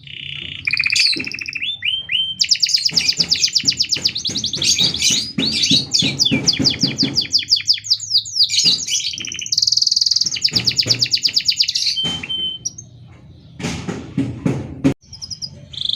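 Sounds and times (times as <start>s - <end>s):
canary singing trills: 0.0s - 13.6s, 15.0s - 15.9s.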